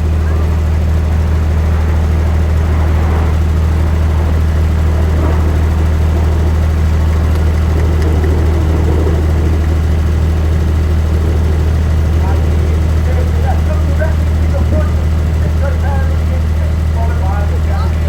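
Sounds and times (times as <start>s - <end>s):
low engine-like rumble: 0.0s - 18.0s.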